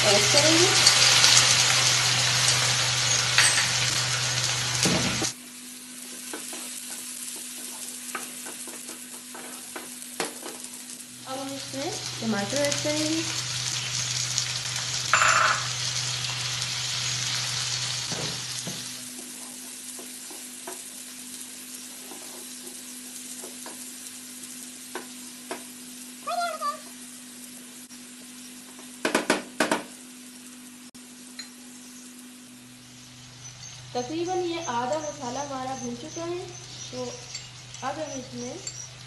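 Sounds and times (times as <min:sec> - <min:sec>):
vegetables sizzling in oil: 0:00.0 - 0:39.0.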